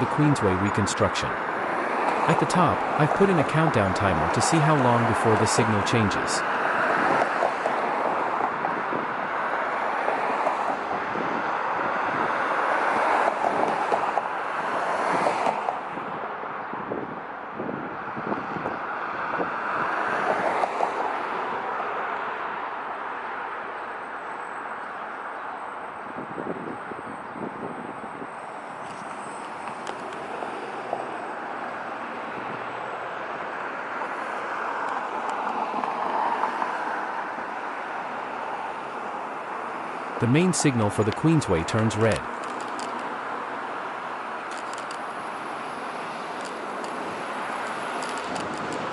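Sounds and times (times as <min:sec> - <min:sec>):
passing cars: 0:00.0 - 0:48.9.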